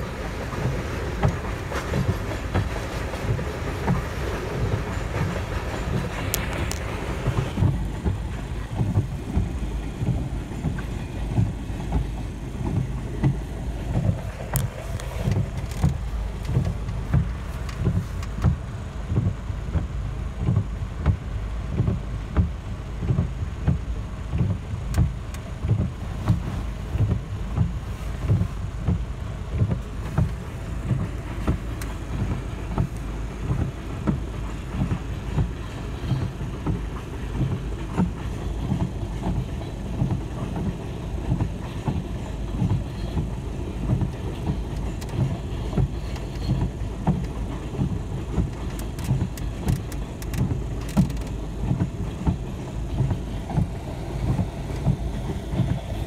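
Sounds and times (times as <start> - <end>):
wheel clatter: 0.0 - 18.7, 25.1 - 56.0
train cars rumbling past: 0.0 - 19.0, 25.5 - 56.0.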